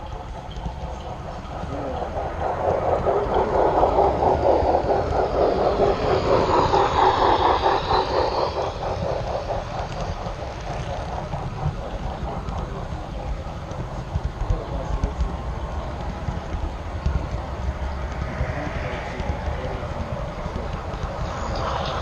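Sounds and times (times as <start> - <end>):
model train wheels clattering: 0.0 - 22.0.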